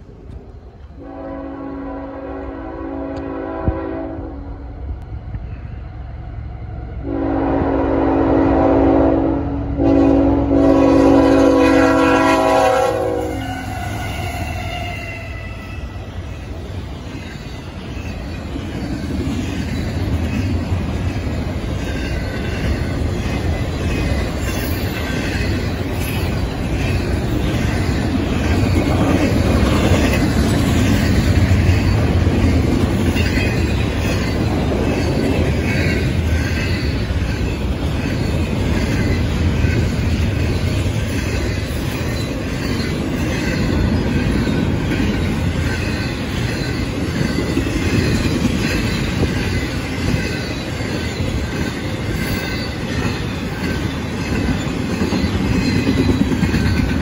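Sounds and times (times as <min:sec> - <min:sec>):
clickety-clack over rail joints: 0:00.0 - 0:01.2, 0:09.8 - 0:57.0
freight train wheels rumbling: 0:00.0 - 0:57.0.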